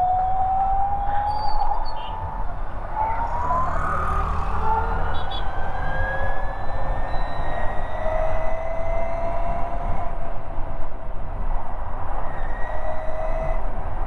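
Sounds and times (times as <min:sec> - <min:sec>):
wind and road noise rumble: 0:00.0 - 0:14.0.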